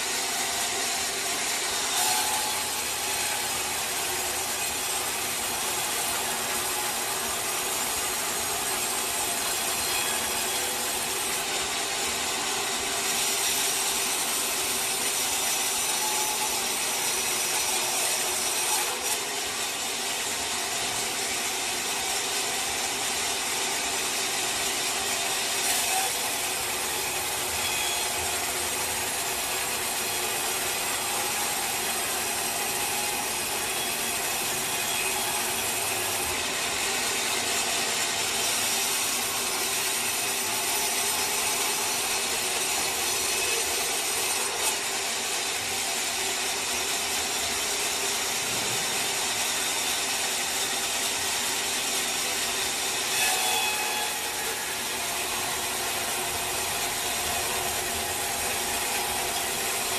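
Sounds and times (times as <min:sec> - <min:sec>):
saw blade rasping through log: 0:00.0 - 0:20.3, 0:23.4 - 0:45.2, 0:46.1 - 0:59.9.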